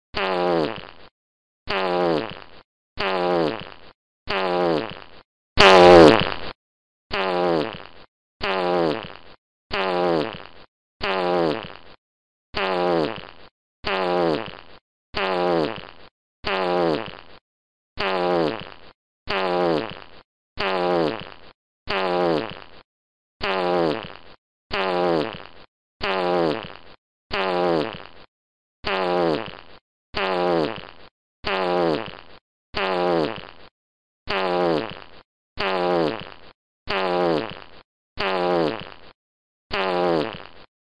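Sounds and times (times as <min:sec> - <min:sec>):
short fart sound effect: 0:00.1 - 0:01.1, 0:01.7 - 0:17.4, 0:18.0 - 0:33.7, 0:34.3 - 0:40.7.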